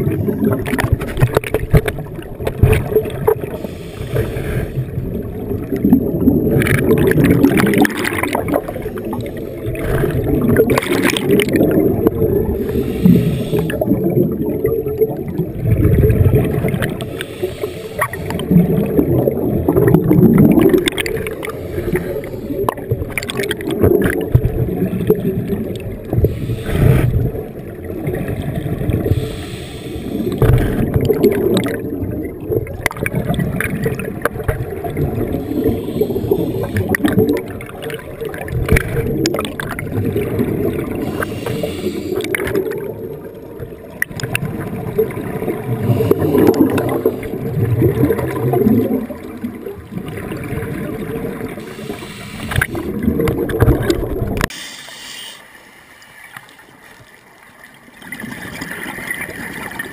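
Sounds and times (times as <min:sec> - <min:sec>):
underwater bubbles gurgling: 0:00.0 - 0:59.9.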